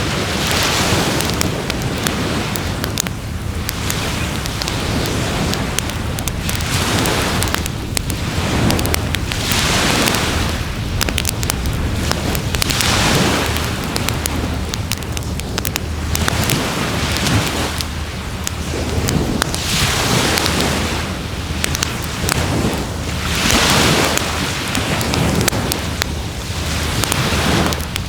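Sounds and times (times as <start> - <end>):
waves washing on shore: 0.0 - 28.0
wood fire crackling and popping: 0.0 - 28.0.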